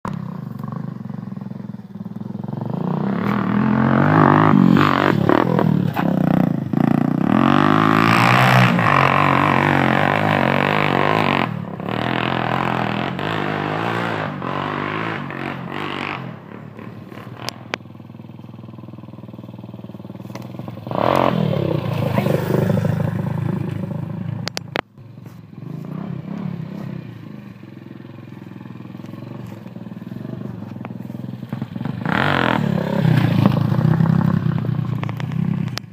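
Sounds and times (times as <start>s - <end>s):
dirt bike engines revving: 0.6s - 18.0s, 18.9s - 35.9s.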